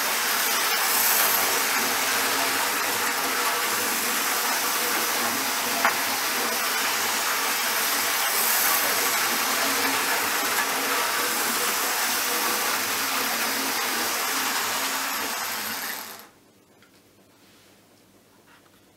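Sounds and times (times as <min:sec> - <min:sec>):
model train motor whirring: 0:00.0 - 0:16.4.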